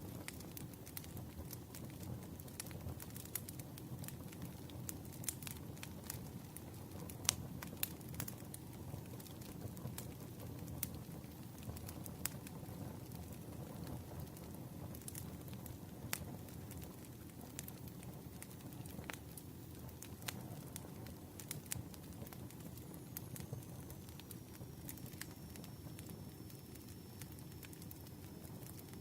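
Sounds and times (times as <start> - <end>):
campfire crackling: 0.0 - 29.0
low rush of flames: 0.0 - 29.0.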